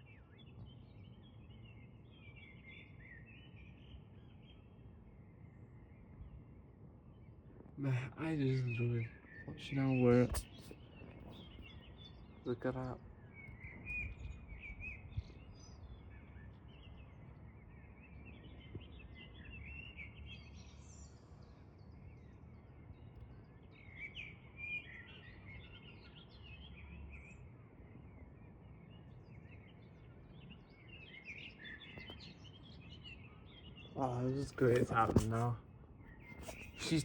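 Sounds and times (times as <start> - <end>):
faint birds chirping: 0.0 - 37.0
low steady background noise: 0.0 - 37.0.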